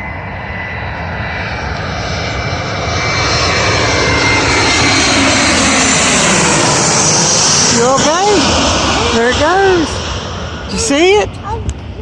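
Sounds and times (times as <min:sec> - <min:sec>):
jet airliner engine roar: 0:00.0 - 0:12.0.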